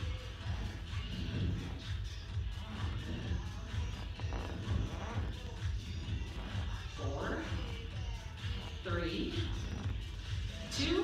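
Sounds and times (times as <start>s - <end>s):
bass-heavy background music: 0.0s - 11.0s.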